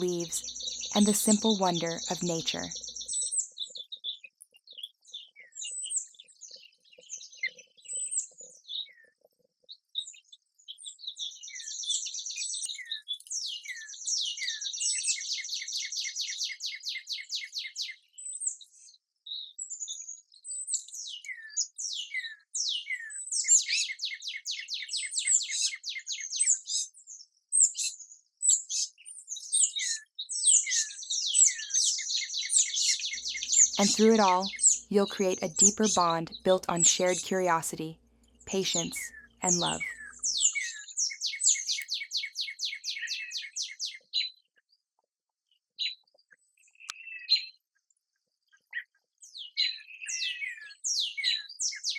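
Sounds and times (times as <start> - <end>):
songbirds chirping: 0.0 - 44.8, 45.8 - 47.6, 48.8 - 51.9.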